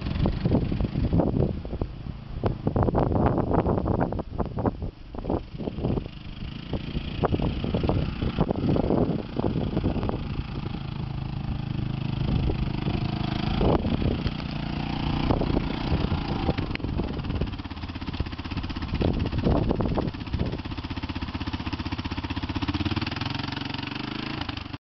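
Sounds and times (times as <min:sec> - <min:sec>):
quad bike engine at low revs: 0:00.0 - 0:24.8.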